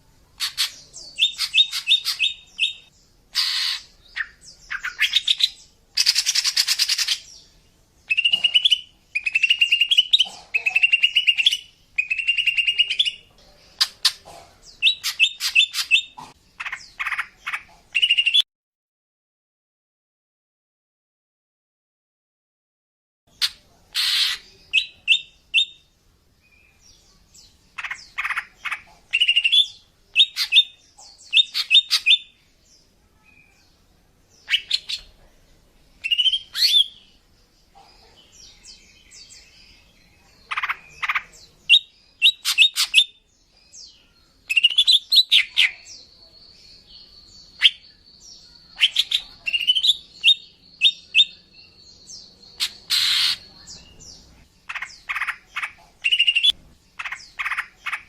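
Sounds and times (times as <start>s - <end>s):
bird chirping calls: 0.3s - 18.4s, 23.3s - 58.0s.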